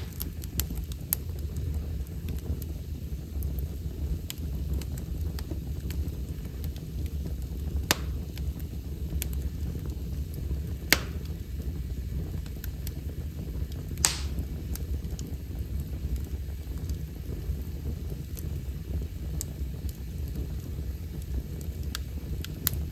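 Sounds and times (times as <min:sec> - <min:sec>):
fire popping sharply: 0:00.0 - 0:22.9
wood fire crackling: 0:00.0 - 0:22.9.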